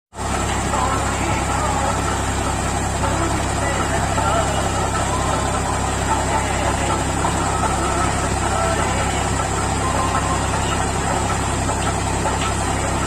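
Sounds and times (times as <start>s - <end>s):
tractor engine running: 0.1s - 13.0s.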